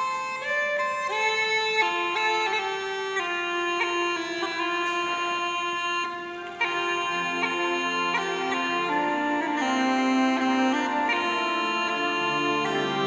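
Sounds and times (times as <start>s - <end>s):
bagpipes playing slow melody: 0.0s - 13.0s.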